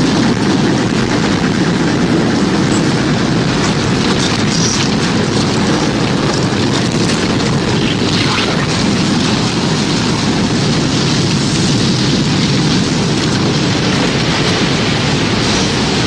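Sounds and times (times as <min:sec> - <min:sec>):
rain-like hiss: 0:00.0 - 0:16.0
roaring wind: 0:00.0 - 0:16.0.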